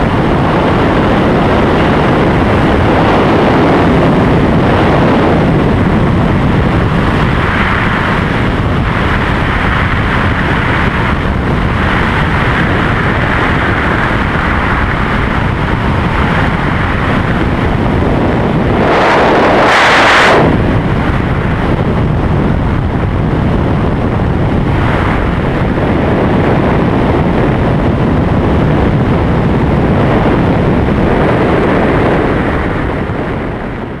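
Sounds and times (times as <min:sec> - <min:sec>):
freefall wind blasting microphone: 0:00.0 - 0:34.0.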